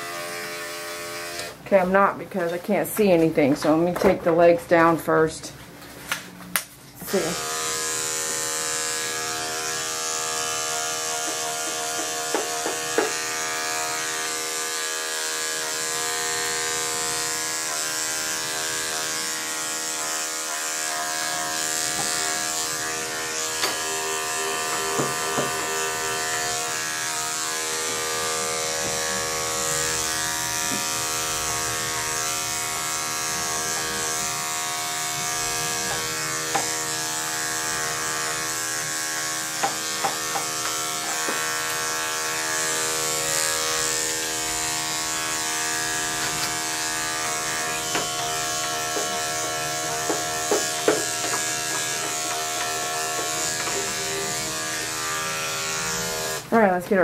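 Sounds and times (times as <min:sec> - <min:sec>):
electric clippers buzzing: 0:00.0 - 0:01.6, 0:06.6 - 0:56.8.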